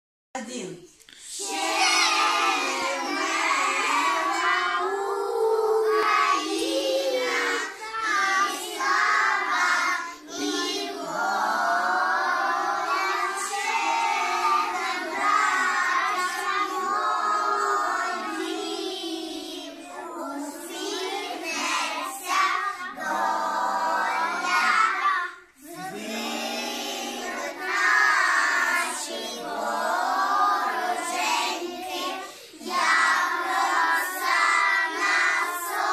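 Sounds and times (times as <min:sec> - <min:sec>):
children singing in chorus: 0:01.2 - 0:35.9.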